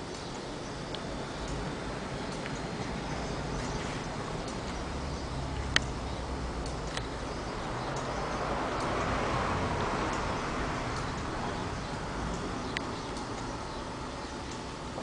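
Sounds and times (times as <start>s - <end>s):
engine low mechanical hum: 0.0s - 15.0s
light irregular clicks: 0.0s - 15.0s.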